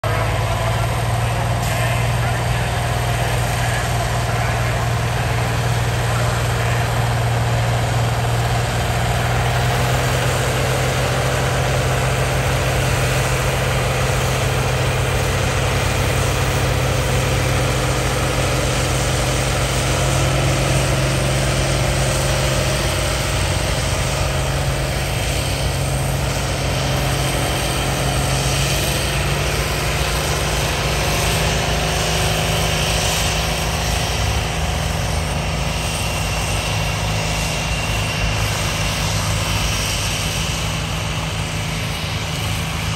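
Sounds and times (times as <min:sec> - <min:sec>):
tractor engine running under load: 0:00.0 - 0:42.9.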